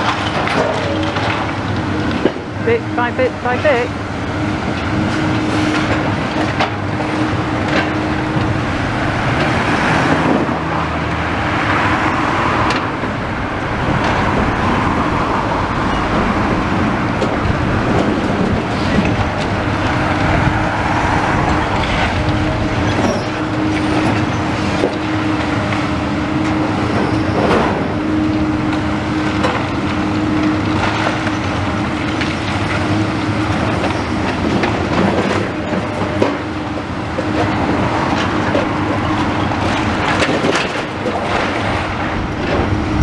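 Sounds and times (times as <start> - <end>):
excavator engine and hydraulics hum: 0.0 - 43.0
road traffic passing: 0.0 - 43.0.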